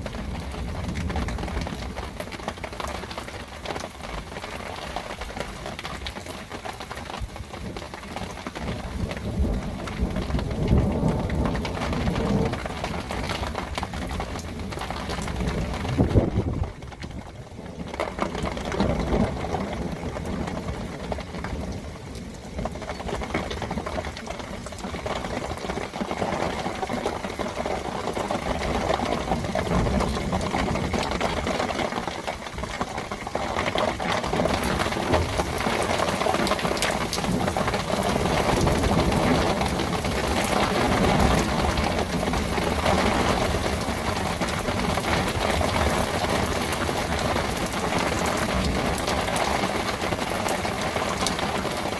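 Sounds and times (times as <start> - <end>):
heavy rain on hard surfaces: 0.0 - 51.9.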